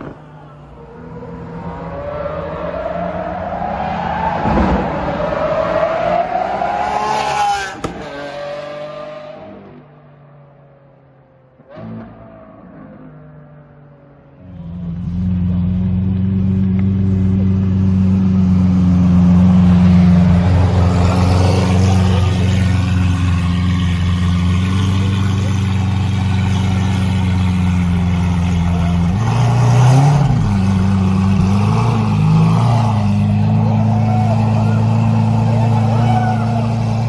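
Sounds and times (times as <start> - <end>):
car engine idling and revving: 0.0 - 37.0.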